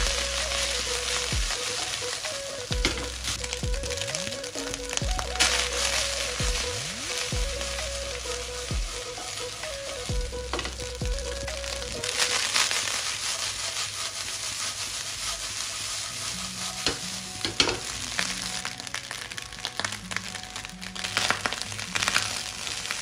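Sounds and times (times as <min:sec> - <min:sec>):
rice sizzling in oil: 0:00.0 - 0:23.0.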